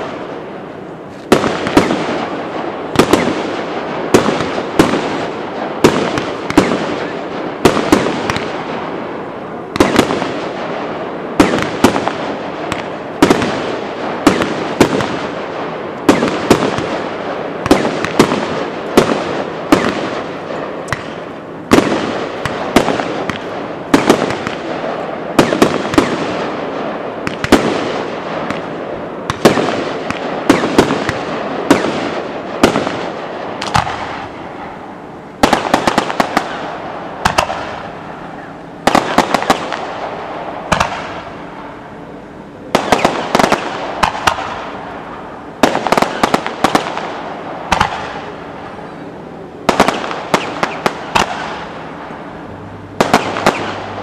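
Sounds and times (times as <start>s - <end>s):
firework crackle and hiss: 0.0s - 52.3s, 53.0s - 54.0s.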